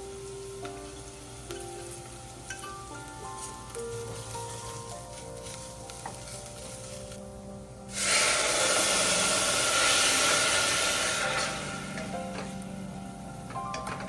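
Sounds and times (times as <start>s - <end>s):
loud steady hiss: 0.0s - 14.0s
soft background music: 0.0s - 14.0s.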